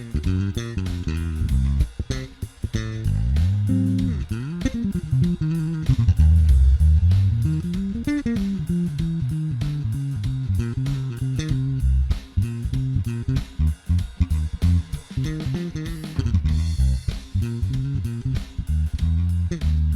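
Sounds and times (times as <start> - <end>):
electric bass guitar plucked: 0.0 - 19.9.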